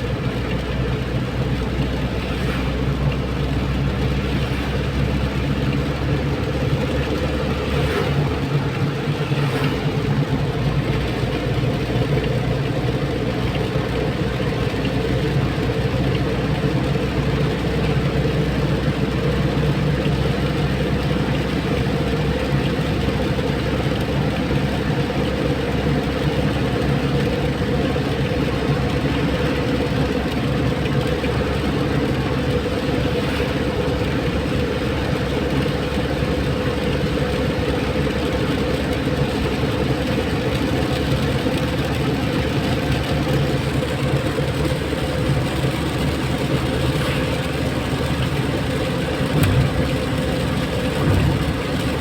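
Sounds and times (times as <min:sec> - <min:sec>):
tyre and road noise: 0:00.0 - 0:52.0
vehicle motor humming: 0:00.0 - 0:52.0.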